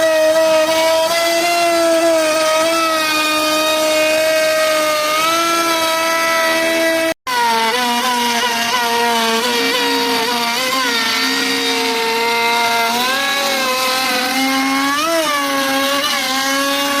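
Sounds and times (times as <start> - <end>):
router spindle whining cutting wood: 0.0 - 17.0.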